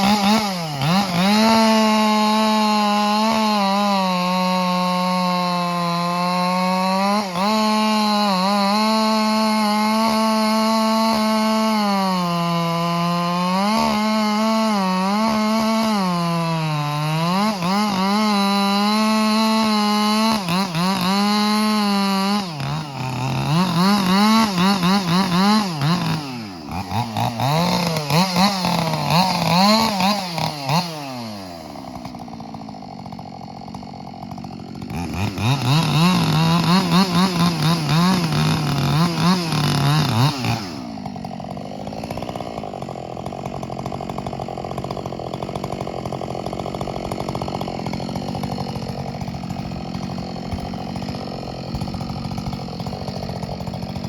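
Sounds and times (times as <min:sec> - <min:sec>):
chainsaw cutting at high revs: 0:00.0 - 0:54.0
chainsaw idling: 0:00.0 - 0:54.0.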